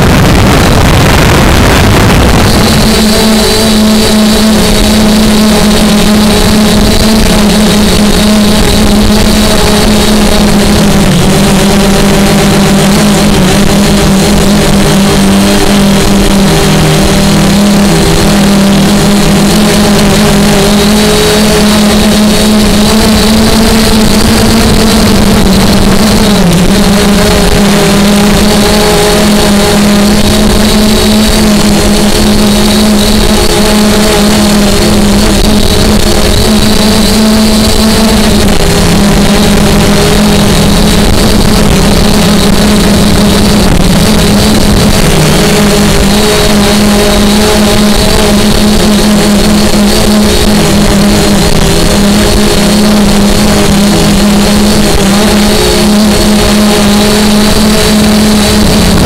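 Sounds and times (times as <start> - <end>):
drone motors humming: 0.0 - 59.0
wind noise on microphone: 0.0 - 59.0.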